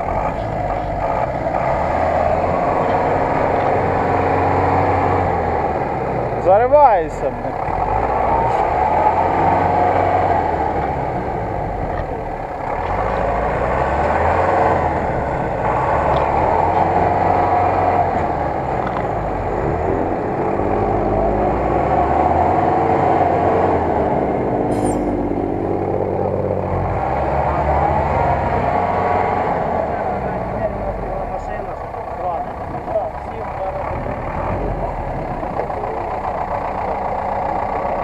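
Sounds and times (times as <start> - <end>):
truck engine working hard in mud: 0.0 - 38.0.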